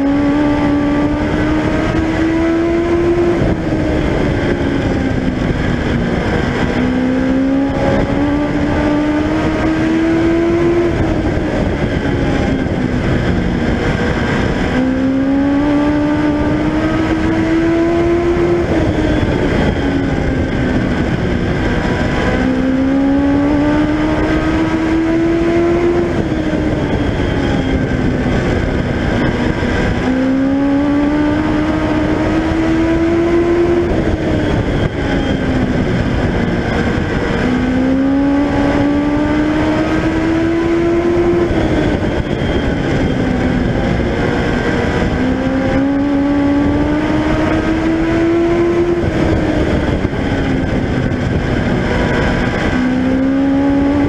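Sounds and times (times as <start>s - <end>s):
dense rushing noise: 0.0s - 54.0s
race car engine revving: 0.0s - 54.0s.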